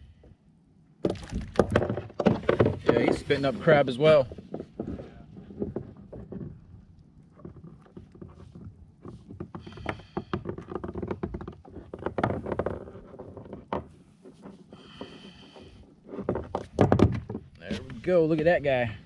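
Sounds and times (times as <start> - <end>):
gear clattering on plastic kayak: 1.0 - 18.8.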